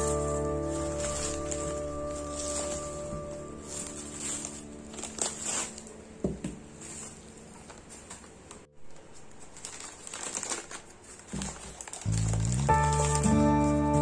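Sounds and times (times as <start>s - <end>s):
packaging crinkling and tapping: 0.0s - 14.0s.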